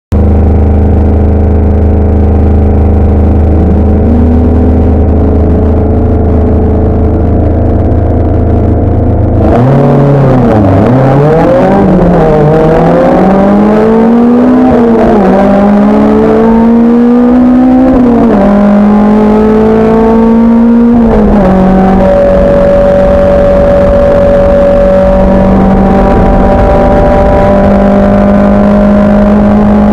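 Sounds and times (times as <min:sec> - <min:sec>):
race car engine accelerating: 0:00.2 - 0:29.9.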